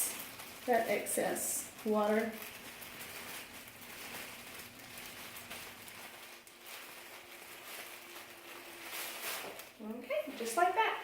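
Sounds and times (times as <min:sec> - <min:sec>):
plastic cap rustling and crinkling: 0:00.0 - 0:10.7.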